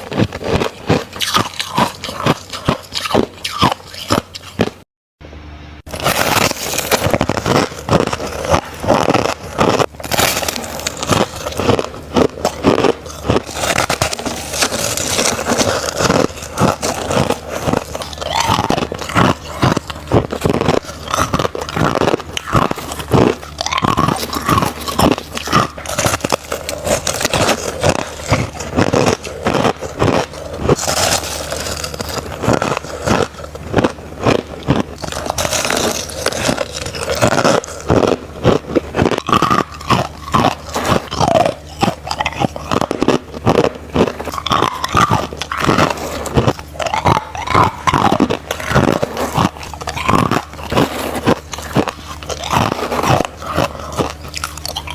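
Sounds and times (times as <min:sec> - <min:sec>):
person chewing crushed ice: 0:00.0 - 0:04.9, 0:05.8 - 0:54.9.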